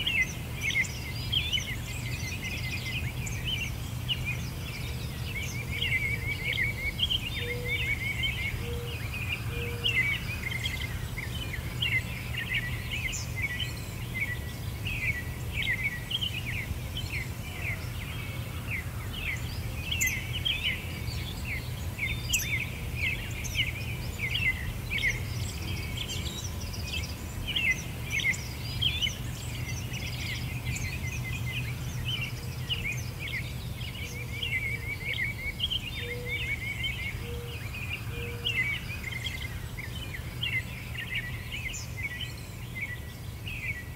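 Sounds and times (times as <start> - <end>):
songbirds chirping: 0.0 - 43.9.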